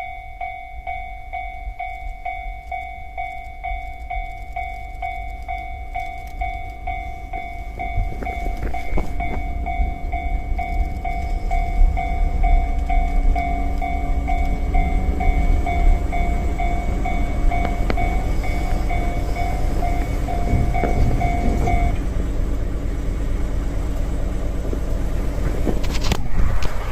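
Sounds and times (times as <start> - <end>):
level crossing bell ringing: 0.0 - 22.0
train rumble: 0.0 - 26.9.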